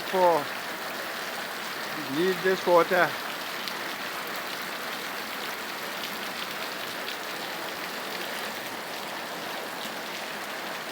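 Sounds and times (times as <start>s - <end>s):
heavy rain pouring: 0.0s - 10.9s.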